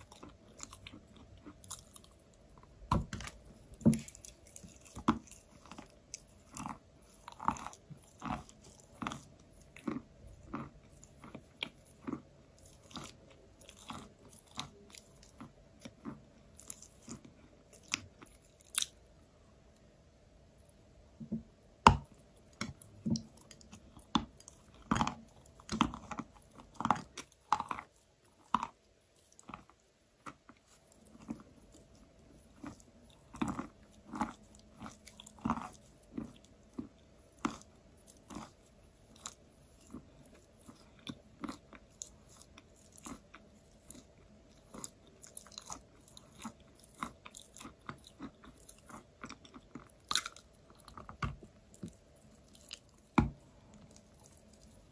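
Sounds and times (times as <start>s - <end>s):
crunchy chewing of chalk: 0.0s - 19.1s, 22.0s - 54.9s.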